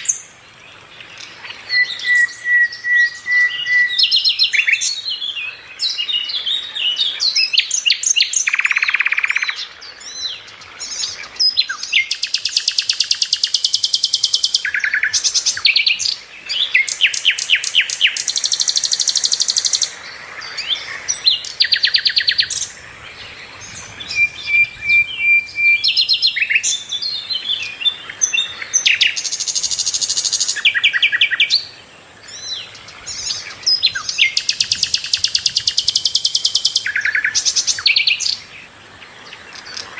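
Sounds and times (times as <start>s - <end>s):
flycatcher singing: 1.1s - 39.9s.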